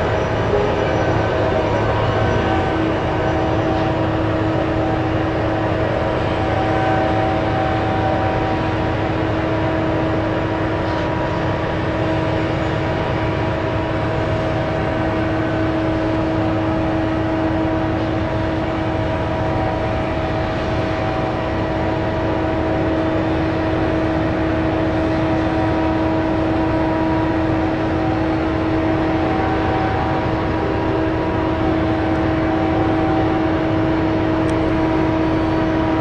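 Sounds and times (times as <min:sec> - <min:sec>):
motor humming steadily: 0:00.0 - 0:36.0.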